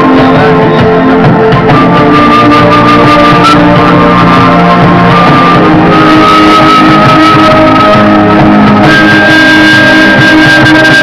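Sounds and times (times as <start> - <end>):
loud guitar music: 0.0 - 11.0.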